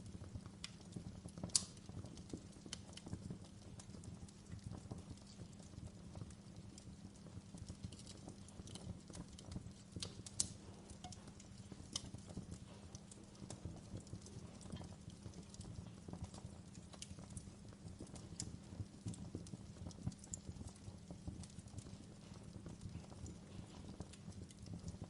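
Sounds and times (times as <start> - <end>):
fire rumbling in fireplace: 0.0 - 25.0
wood crackling and popping: 0.0 - 25.0.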